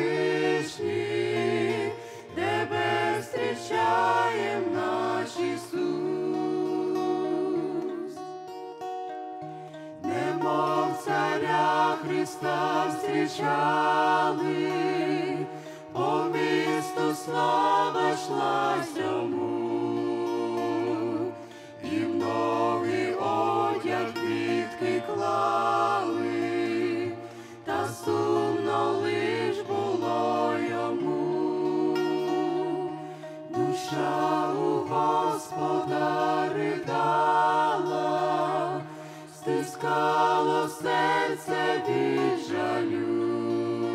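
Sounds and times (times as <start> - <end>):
group singing a hymn: 0.0 - 8.4, 9.4 - 43.9.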